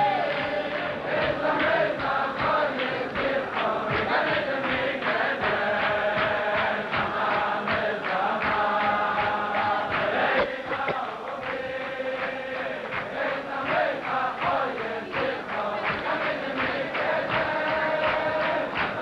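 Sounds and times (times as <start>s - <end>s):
men singing together: 0.0s - 19.0s.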